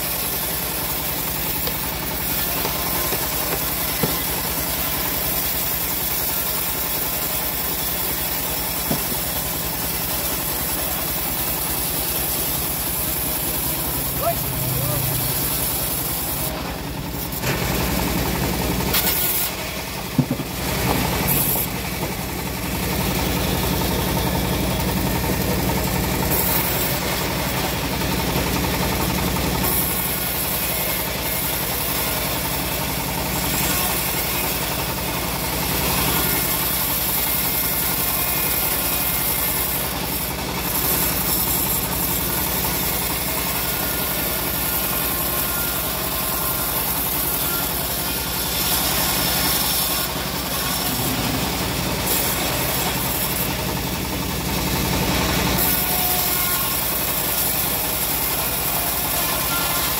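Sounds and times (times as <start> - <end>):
bandsaw mill sawing log: 0.0 - 59.9.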